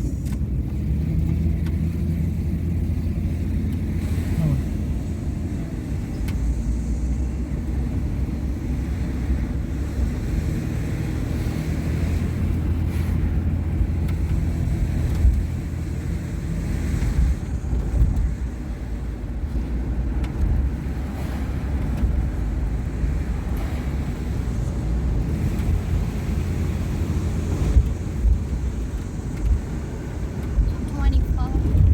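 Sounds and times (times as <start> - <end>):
car road and engine rumble: 0.0 - 31.9
wind noise: 5.3 - 31.9.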